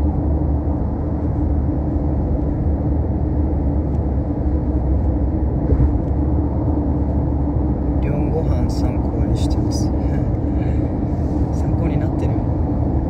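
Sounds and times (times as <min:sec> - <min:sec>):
car interior road and engine rumble: 0:00.0 - 0:13.0.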